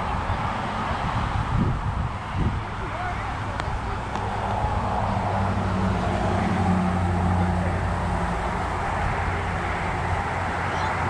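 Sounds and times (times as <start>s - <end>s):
heavy vehicle engine droning: 0.0s - 11.0s
traffic noise: 0.0s - 11.0s.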